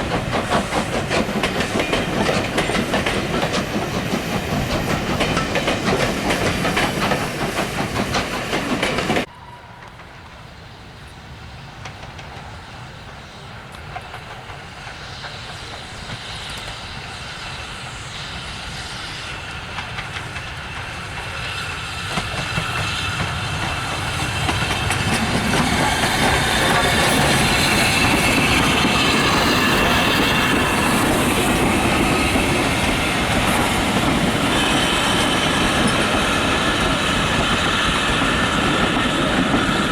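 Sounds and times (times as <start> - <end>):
high ringing wheels on rail: 0.0 - 39.9
steam train wheels clattering: 0.0 - 39.9
train approaching: 0.0 - 39.9.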